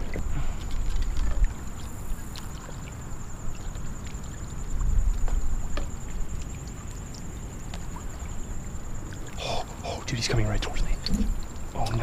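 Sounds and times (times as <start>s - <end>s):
paddle strokes and drips: 0.0s - 12.0s
small ticks and splashes: 0.0s - 12.0s
wind rumbling on microphone: 0.0s - 12.0s.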